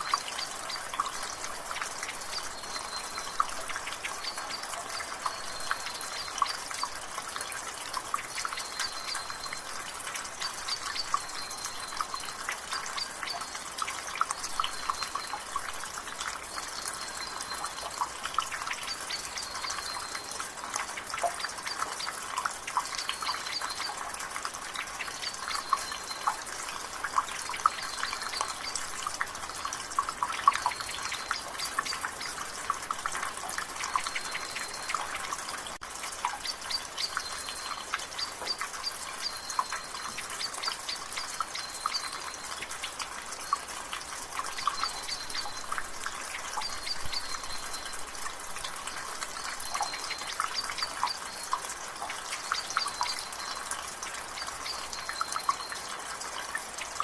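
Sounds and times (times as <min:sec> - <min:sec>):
water dripping from gutter: 0:00.0 - 0:57.0.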